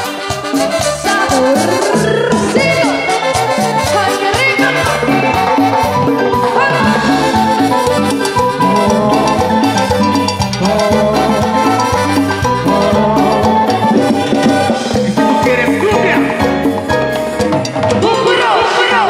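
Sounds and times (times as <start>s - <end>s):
live band playing dance music: 0.0s - 19.0s.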